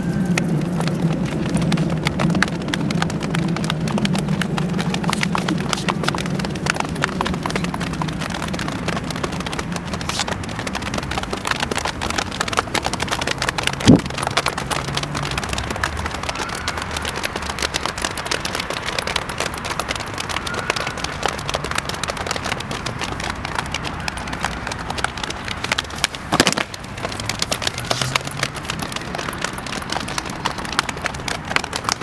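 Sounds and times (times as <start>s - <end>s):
hands slapping thighs: 0.3s - 32.0s.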